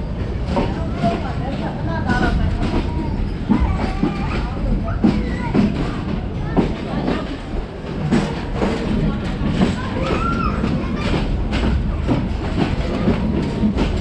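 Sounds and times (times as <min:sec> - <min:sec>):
train low rumble: 0:00.0 - 0:14.0
train wheels knocking over rail joints: 0:00.2 - 0:14.0.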